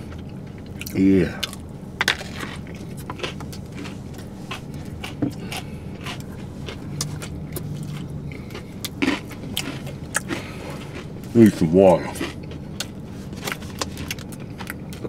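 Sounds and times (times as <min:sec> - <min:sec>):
low steady hum: 0:00.0 - 0:15.0
people chewing crunchy food: 0:00.0 - 0:15.0.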